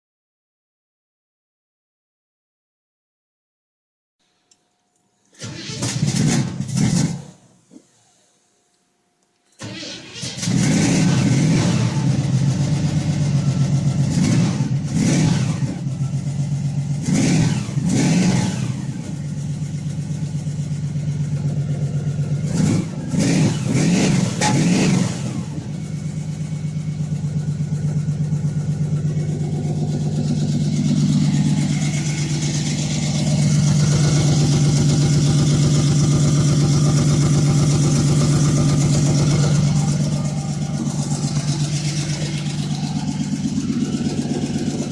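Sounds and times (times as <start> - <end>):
car engine revving and idling: 5.4 - 7.5, 9.6 - 44.9.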